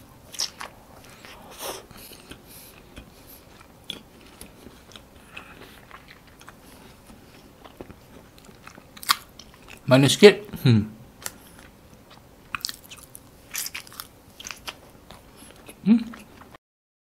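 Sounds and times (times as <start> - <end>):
person chewing soft cake: 0.1 - 9.9, 11.2 - 16.6.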